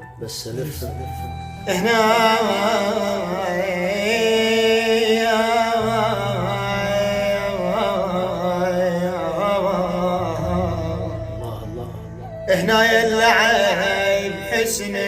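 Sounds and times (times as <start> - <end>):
low sustained accompaniment: 0.0 - 15.0
man singing ornamented chant: 0.6 - 15.0.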